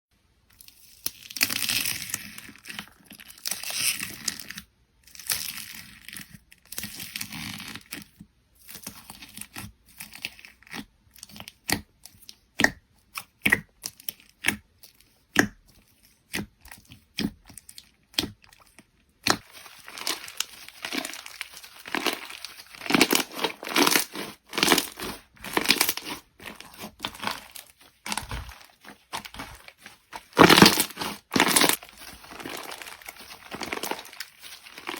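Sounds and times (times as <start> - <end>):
slime squished and stretched: 0.5 - 34.9.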